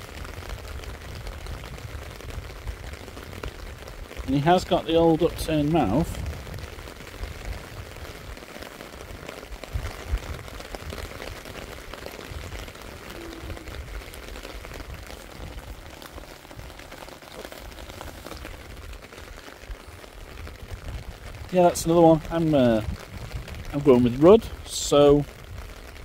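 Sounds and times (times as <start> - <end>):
light rain patter: 0.0 - 26.0
wind rumbling on microphone: 0.0 - 26.0.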